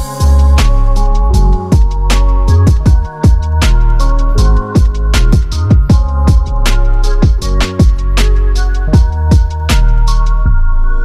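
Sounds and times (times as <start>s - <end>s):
deep kick drums: 0.0s - 8.2s, 8.8s - 10.1s
electronic music: 0.0s - 11.0s.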